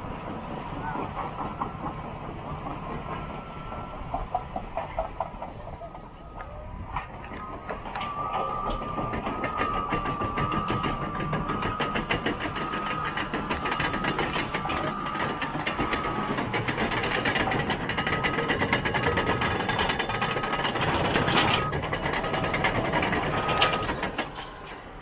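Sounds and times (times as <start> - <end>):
bulldozer diesel engine under load: 0.0 - 25.0
steel tracks clanking: 0.0 - 25.0.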